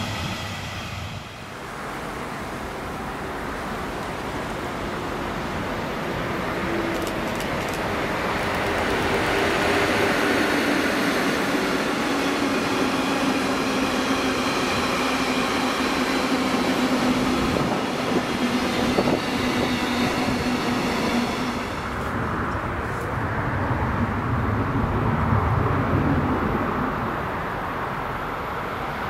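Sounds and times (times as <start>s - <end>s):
train wheels rolling on rail: 0.0s - 23.3s.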